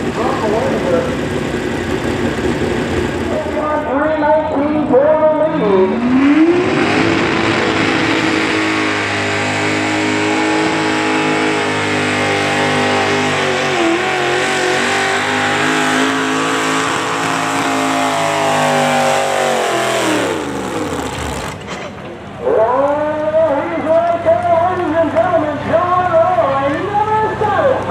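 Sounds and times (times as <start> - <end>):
pulling vehicle engine at full throttle: 0.0 - 22.4.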